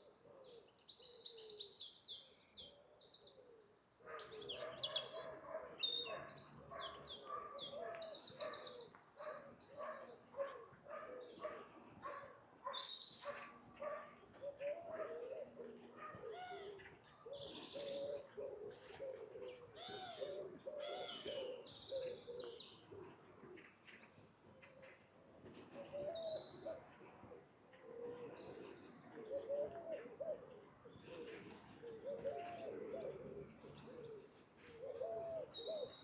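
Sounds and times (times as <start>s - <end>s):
birds chirping and singing: 0.0s - 36.0s.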